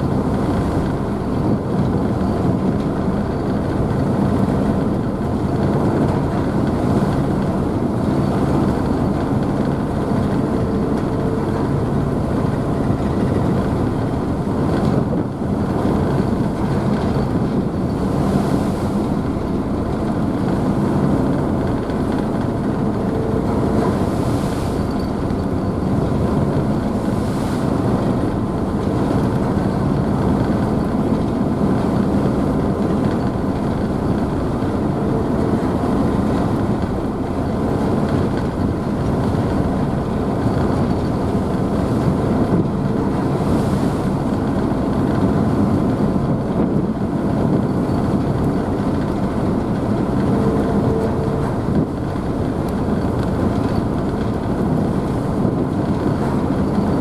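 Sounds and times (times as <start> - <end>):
rushing wake and spray: 0.0 - 57.0
ship engines humming: 0.0 - 57.0.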